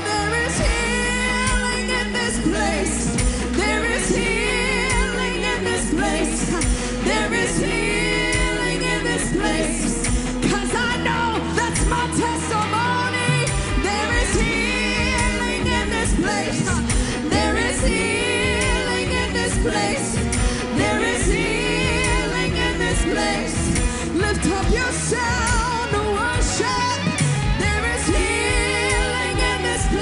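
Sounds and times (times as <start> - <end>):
band with bass and drums: 0.0 - 30.0.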